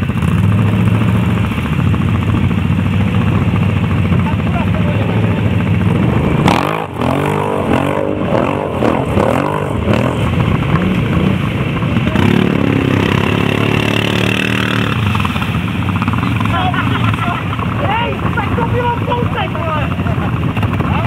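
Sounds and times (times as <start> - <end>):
quad bike engine idling: 0.0 - 21.0
quad bike engine revving: 0.0 - 21.0.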